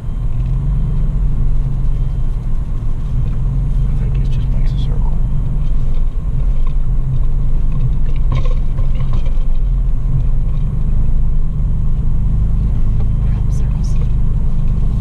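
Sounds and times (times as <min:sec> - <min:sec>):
engine drone inside vehicle cabin: 0:00.0 - 0:15.0.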